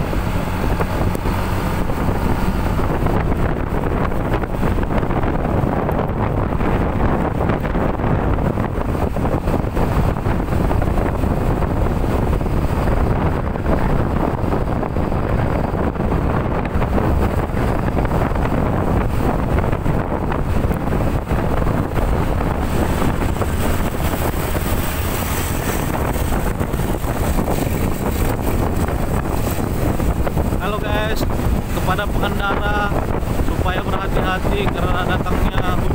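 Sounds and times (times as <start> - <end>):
storm wind buffeting microphone: 0.0 - 35.9.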